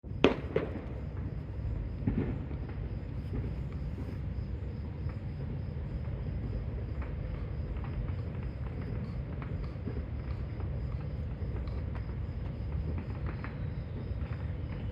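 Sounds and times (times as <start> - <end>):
constant low rumble: 0.0 - 14.9
crickets chirping: 0.0 - 14.9
distant fireworks pops: 0.0 - 14.9.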